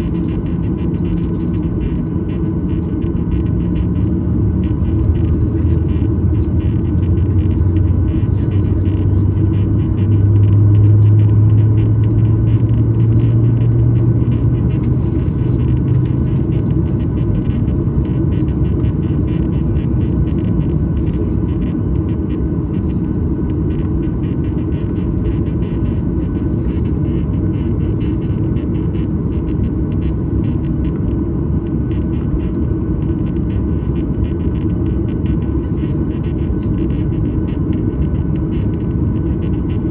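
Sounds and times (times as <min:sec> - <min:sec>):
airplane cabin engine drone: 0:00.0 - 0:39.9
low hum: 0:00.0 - 0:39.9.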